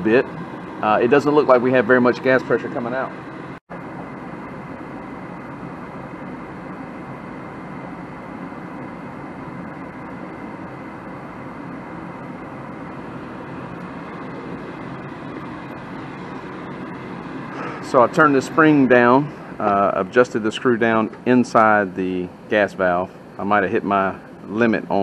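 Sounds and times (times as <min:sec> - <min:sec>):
furnace inducer motor whirring: 0:00.0 - 0:25.0.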